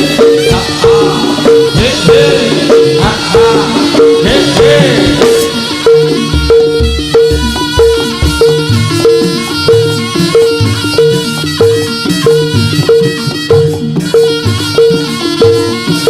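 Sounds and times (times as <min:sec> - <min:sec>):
drums: 0:00.0 - 0:16.0
gamelan metal percussion: 0:00.0 - 0:16.0.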